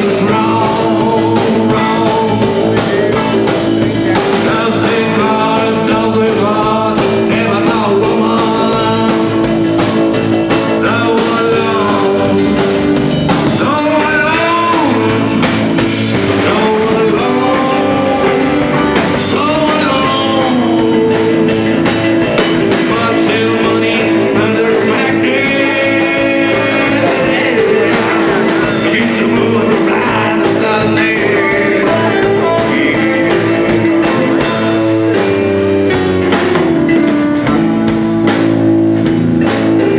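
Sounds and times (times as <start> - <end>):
person singing: 0.0 - 38.6
rock band playing live: 0.0 - 39.9.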